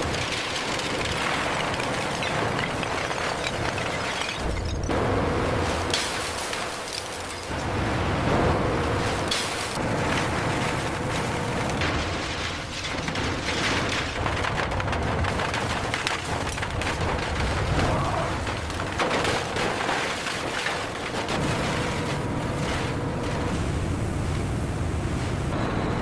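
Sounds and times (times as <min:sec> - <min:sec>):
machinery clattering and knocks: 0:00.0 - 0:07.8, 0:08.6 - 0:24.4
heavy machinery rumble: 0:00.0 - 0:26.0.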